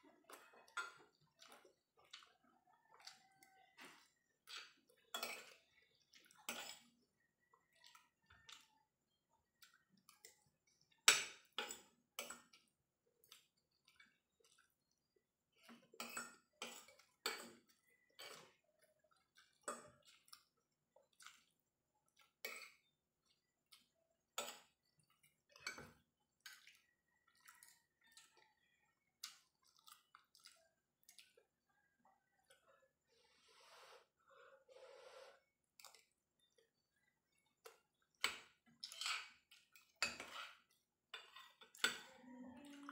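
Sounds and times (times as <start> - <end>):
soft chewing: 0.1 - 42.9.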